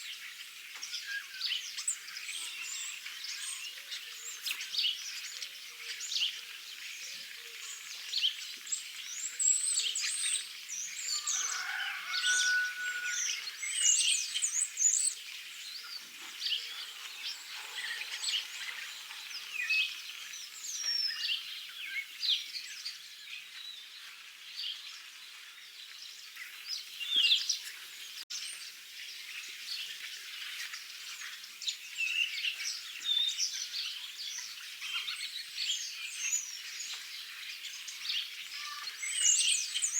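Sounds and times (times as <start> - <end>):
songbirds chirping chorus: 0.0 - 39.9.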